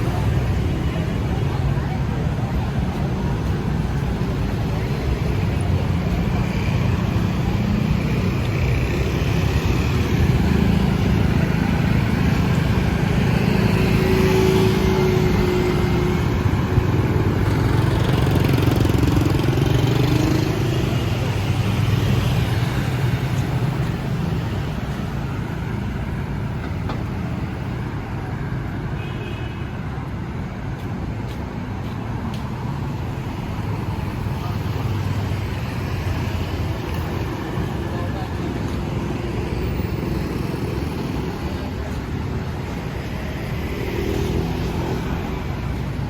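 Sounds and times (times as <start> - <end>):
motorbikes passing: 0.0 - 28.3, 31.4 - 46.0
cars passing: 0.0 - 29.0, 29.8 - 46.0.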